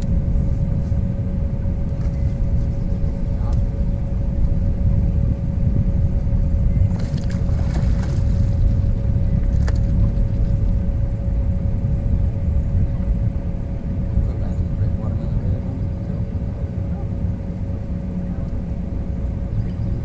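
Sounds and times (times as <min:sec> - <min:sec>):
steady hum: 0:00.0 - 0:20.0
steady low rumble: 0:00.0 - 0:20.0.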